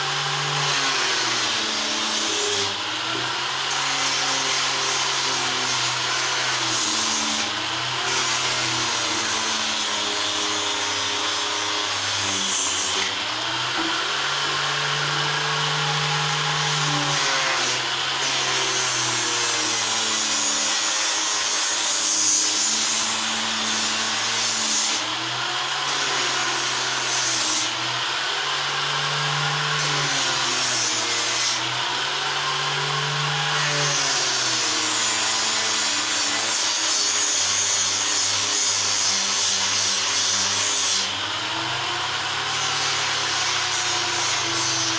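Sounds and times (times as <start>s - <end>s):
power tool cutting wood: 0.0s - 44.9s.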